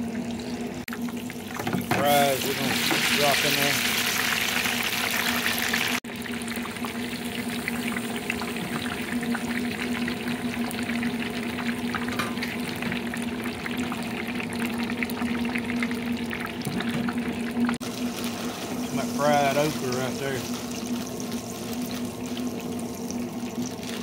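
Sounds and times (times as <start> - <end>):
oil sizzling and crackling: 0.0 - 24.0.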